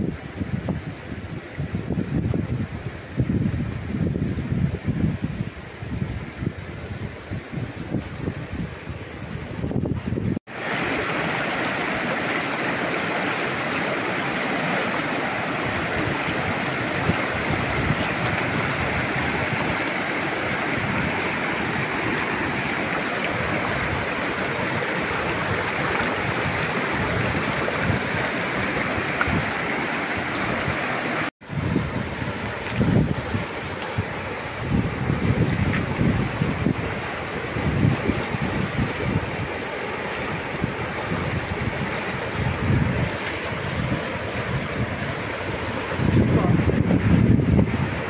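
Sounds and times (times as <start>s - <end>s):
river running over rapids: 0.0s - 48.0s.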